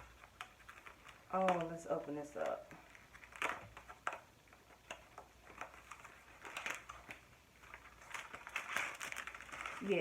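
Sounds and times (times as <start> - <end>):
packaging rustling and clicking: 0.0 - 10.0.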